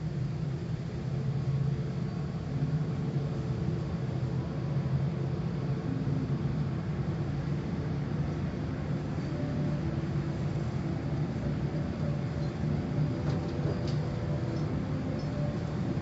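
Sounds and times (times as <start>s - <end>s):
car wash machinery rumbling: 0.0s - 16.0s.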